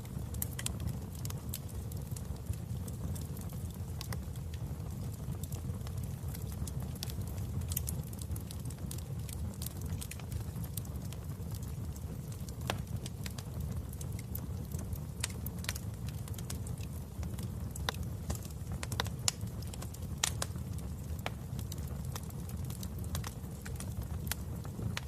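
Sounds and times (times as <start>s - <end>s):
fire crackling and popping: 0.0s - 25.0s
flames rumbling: 0.0s - 25.0s.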